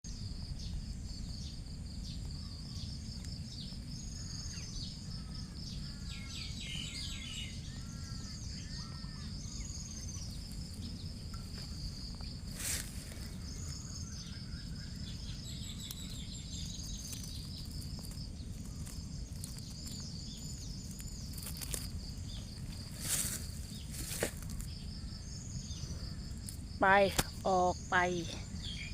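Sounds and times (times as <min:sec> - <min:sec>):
high-pitched insect trill: 0:00.1 - 0:28.9
bird chirps: 0:03.4 - 0:28.9.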